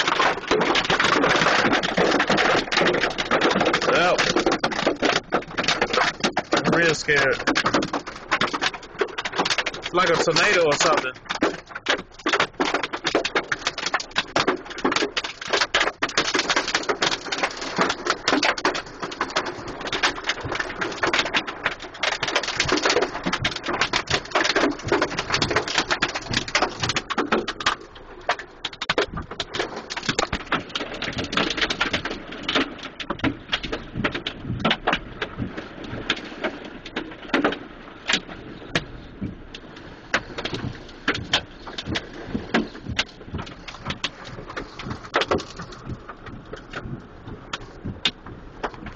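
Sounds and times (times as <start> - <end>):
hail clattering on vehicle roof: 0.0 - 48.9.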